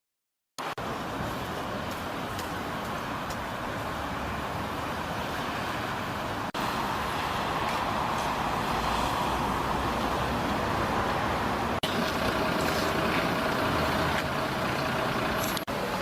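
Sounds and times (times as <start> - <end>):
car road and engine noise: 0.6 - 16.0.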